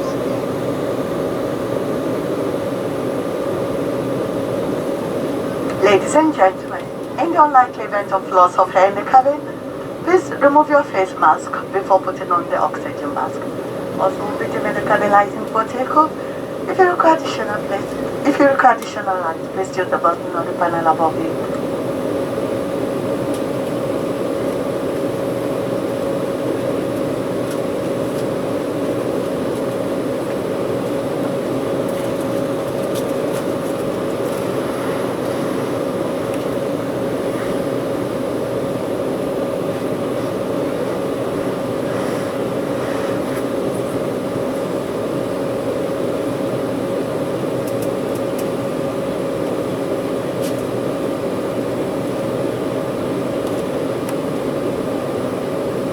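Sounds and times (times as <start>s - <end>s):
airliner engines humming: 0.0s - 55.9s
cabin air conditioning hiss: 0.0s - 55.9s.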